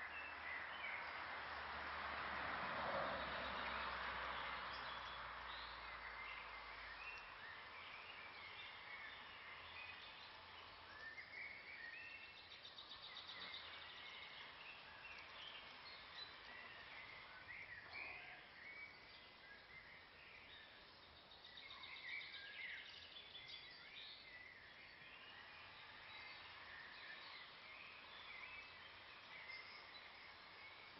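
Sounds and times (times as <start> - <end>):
outdoor hiss: 0.0 - 30.9
songbirds chirping: 0.0 - 30.9.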